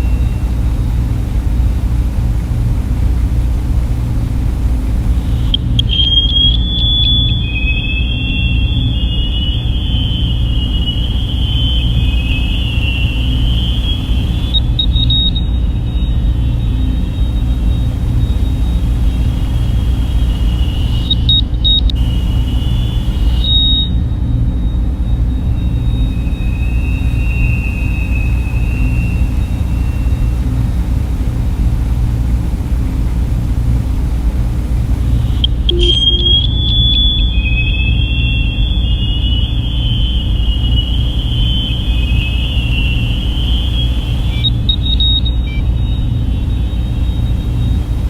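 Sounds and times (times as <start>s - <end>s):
deep noise rumble: 0.0s - 48.0s
faint high electronic tones: 0.0s - 48.0s
wavering electronic tone: 0.0s - 48.0s.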